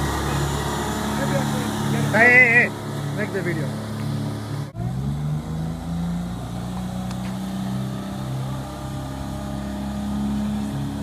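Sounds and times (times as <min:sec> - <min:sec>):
petrol engine running: 0:00.0 - 0:11.0.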